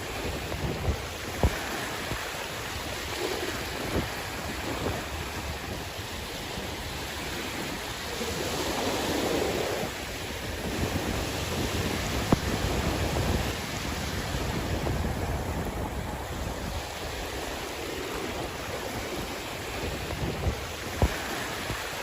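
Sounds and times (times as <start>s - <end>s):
sea waves washing on shore: 0.0s - 22.0s
wind buffeting microphone: 0.0s - 22.0s.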